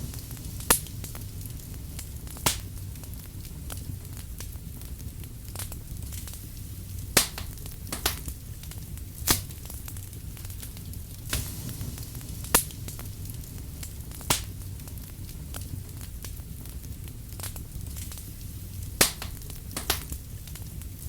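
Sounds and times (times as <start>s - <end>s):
low steady rumble: 0.0s - 21.0s
sharp pops of burning wood: 0.0s - 21.0s
wood fire crackling: 0.0s - 21.0s.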